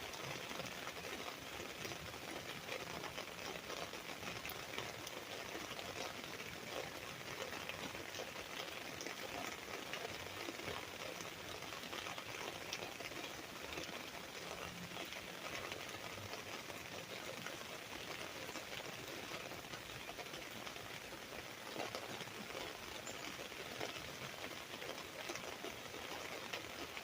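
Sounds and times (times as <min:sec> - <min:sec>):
rain on an umbrella: 0:00.0 - 0:27.0.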